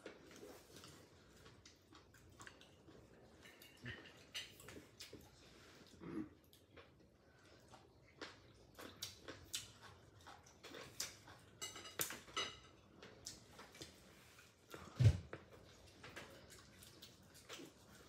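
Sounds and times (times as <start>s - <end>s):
chewing and lip-smacking: 0.0s - 18.0s.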